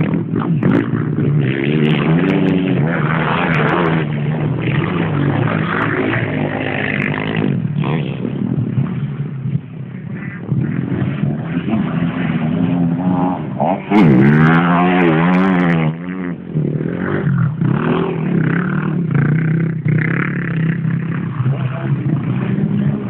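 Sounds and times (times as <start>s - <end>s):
off-road engines revving: 0.0s - 23.0s.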